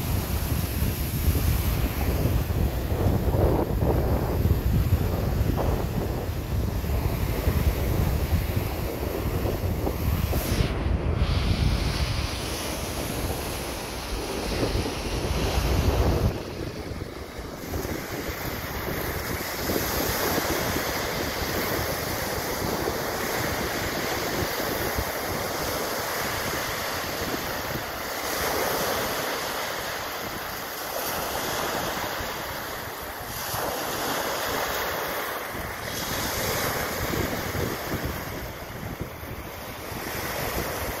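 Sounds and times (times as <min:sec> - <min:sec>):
waves breaking on stony shore: 0:00.0 - 0:41.0
wind buffeting microphone: 0:00.0 - 0:41.0.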